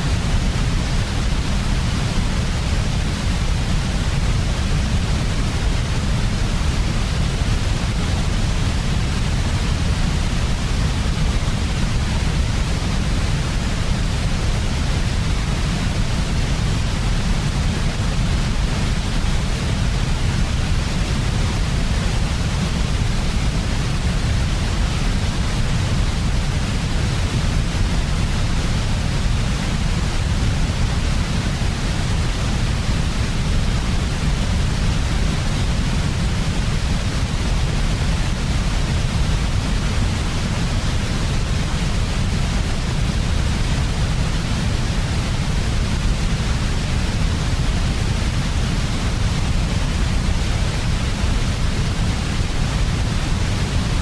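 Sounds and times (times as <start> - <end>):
white noise low rumble: 0.0 - 54.0.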